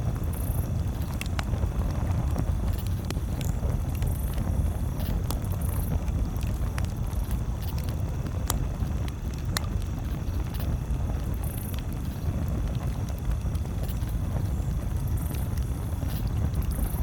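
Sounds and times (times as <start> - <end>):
campfire crackling: 0.0 - 17.0
steady low rumble: 0.0 - 17.0.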